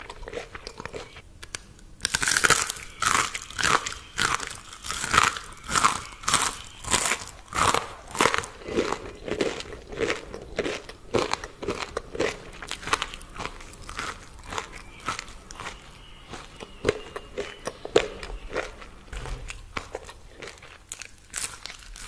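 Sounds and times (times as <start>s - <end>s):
chewing crispy food: 0.0s - 22.0s.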